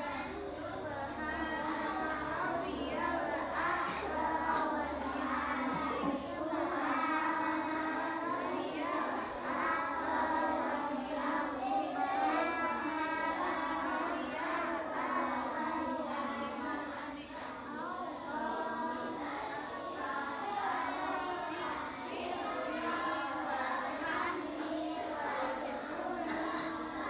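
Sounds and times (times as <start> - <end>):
children chanting together: 0.0 - 27.0.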